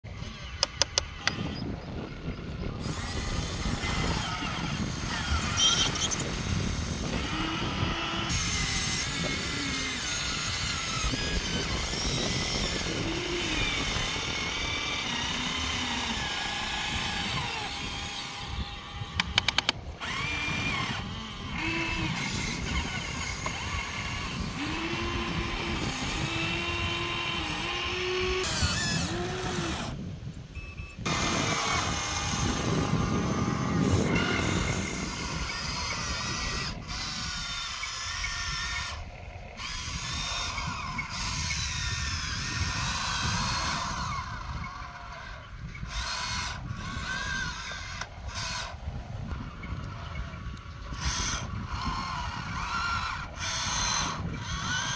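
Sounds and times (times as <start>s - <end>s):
electric motors whining: 0.0s - 54.9s.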